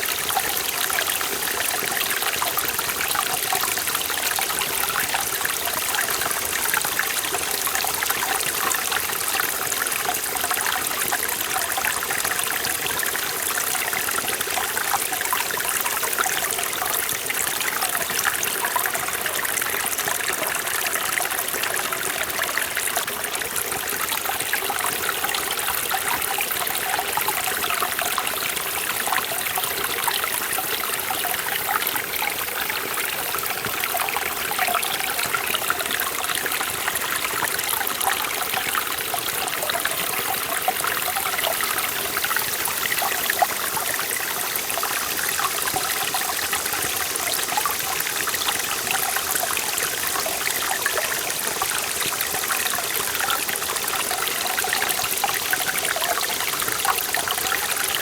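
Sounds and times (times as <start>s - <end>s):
stream splashing over rocks: 0.0s - 58.0s.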